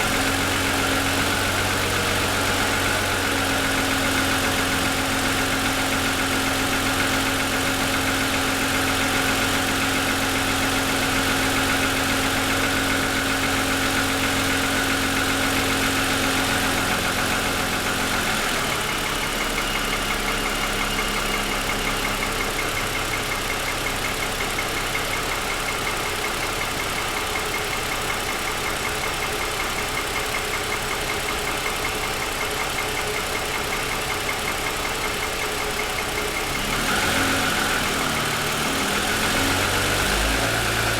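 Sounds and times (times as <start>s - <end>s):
car engine idling: 0.0s - 40.9s
engine knocking rattle: 0.0s - 40.9s.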